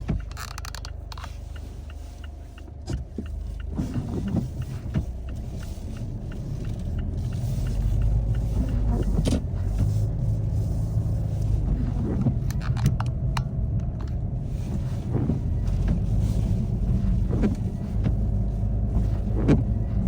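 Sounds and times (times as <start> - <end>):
car engine and road noise: 0.0 - 20.0
faint light ticks: 0.0 - 20.0.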